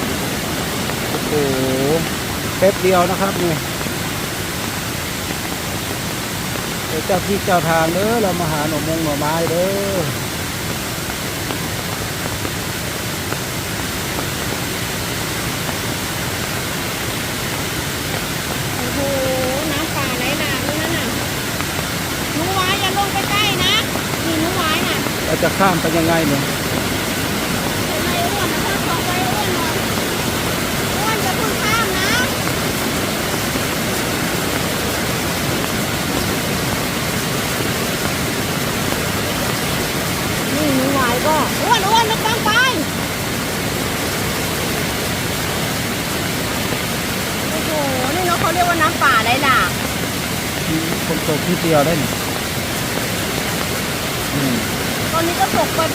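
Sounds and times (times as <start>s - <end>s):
stream rushing: 0.0s - 55.9s.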